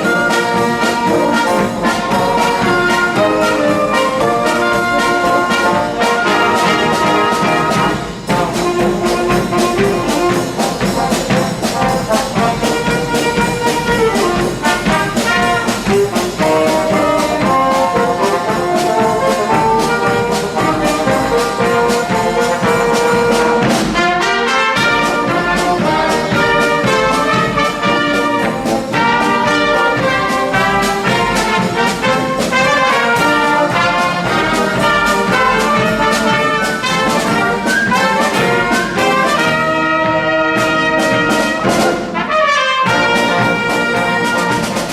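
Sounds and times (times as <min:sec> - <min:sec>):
brass band playing: 0:00.0 - 0:44.9
drums striking sharply: 0:00.0 - 0:44.9.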